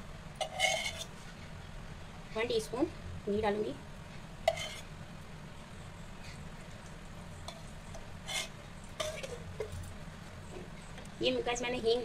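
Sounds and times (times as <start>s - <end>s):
ghee sizzling on hot pan: 0.0s - 2.6s, 3.2s - 11.4s
low steady hum: 0.0s - 12.0s.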